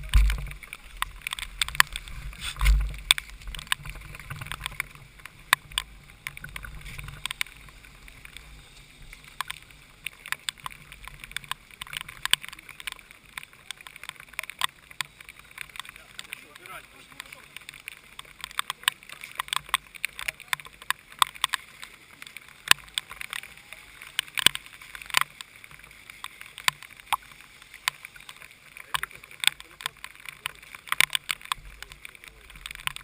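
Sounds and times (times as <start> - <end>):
rain drops tapping on camera: 0.0 - 33.0.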